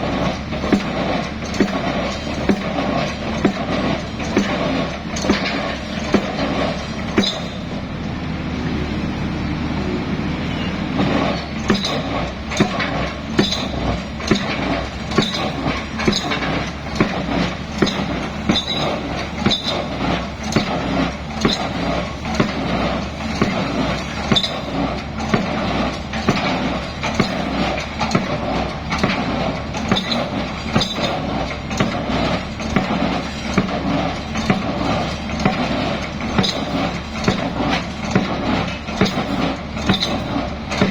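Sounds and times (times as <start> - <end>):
diesel engine running: 0.0 - 40.9
sharp rhythmic knocks: 0.1 - 7.6, 11.0 - 40.9.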